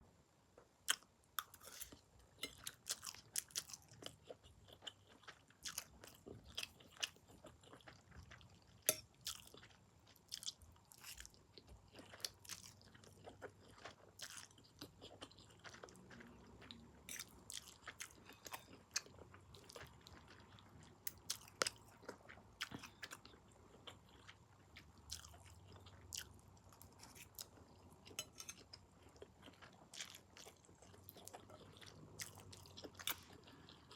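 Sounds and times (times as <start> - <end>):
person chewing noodles: 0.9 - 33.9.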